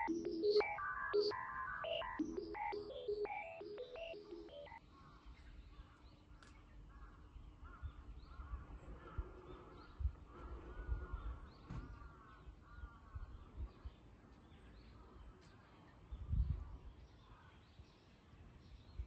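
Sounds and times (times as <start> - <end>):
birds calling faintly: 0.0 - 19.0.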